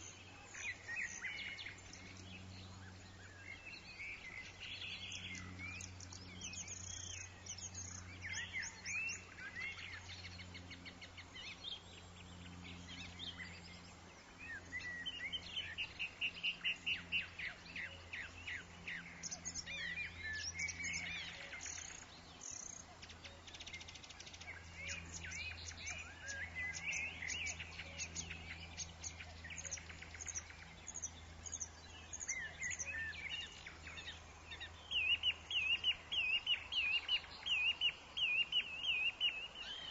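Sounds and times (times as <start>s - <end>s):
birds chirping and singing: 0.0s - 39.9s
steady low hum: 0.0s - 39.9s.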